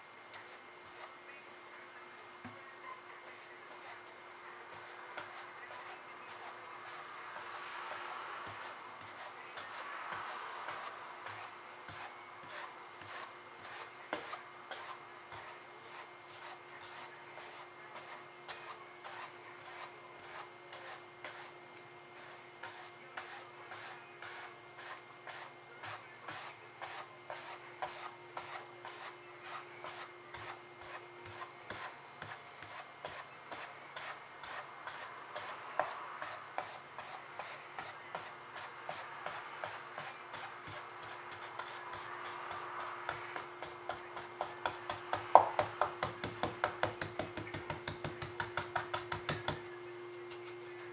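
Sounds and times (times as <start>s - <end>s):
paintbrush strokes scratching: 0.4s - 1.1s, 3.3s - 4.1s, 4.7s - 21.5s, 22.2s - 45.1s.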